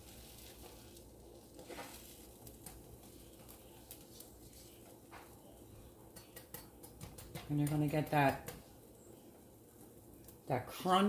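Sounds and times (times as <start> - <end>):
sandwich sizzling in butter: 0.0 - 11.0
small crackles: 0.0 - 11.0.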